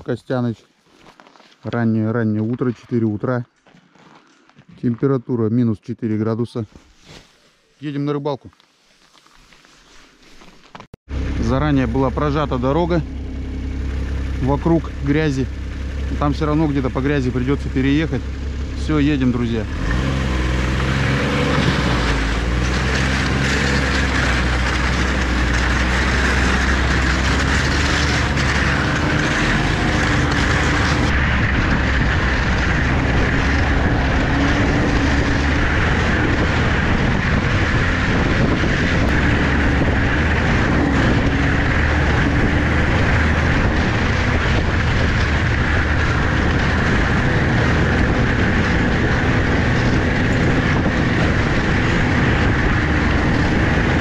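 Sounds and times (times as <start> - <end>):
vehicle engine rumble: 10.7 - 54.0.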